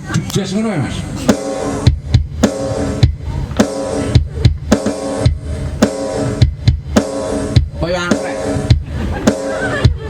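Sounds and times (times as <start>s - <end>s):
instrumental backing music: 1.1s - 10.0s
drum kit beat: 1.2s - 10.0s.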